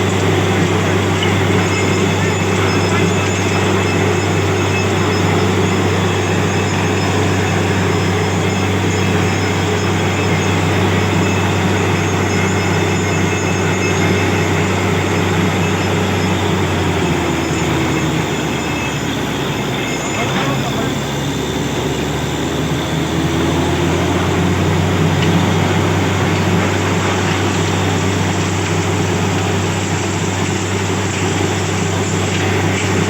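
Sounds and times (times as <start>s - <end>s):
drilling machine engine drone: 0.0s - 33.0s.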